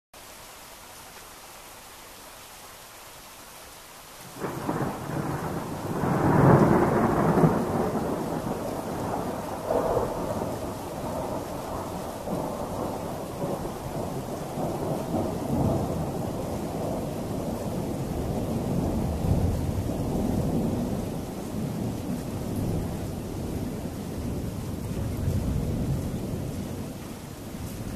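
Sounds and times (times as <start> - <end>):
rain hissing: 0.2 - 27.9
thunder rolling: 4.4 - 26.9.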